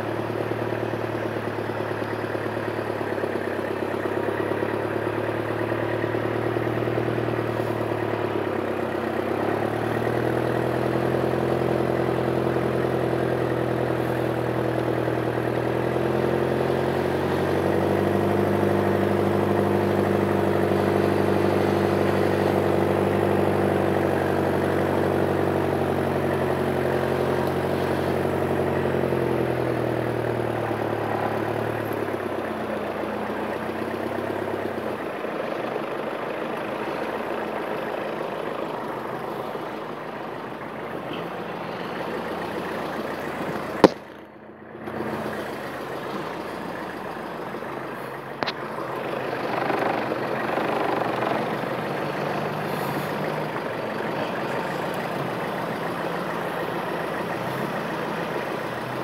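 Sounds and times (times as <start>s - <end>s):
off-road engine running at low revs: 0.0s - 59.0s.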